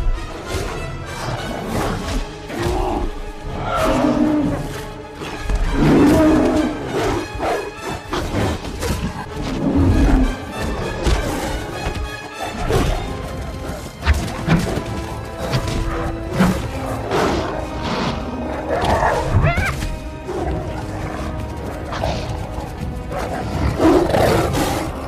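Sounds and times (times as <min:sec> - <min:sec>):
dramatic film score: 0:00.0 - 0:25.0
snarling animal growls: 0:00.4 - 0:25.0.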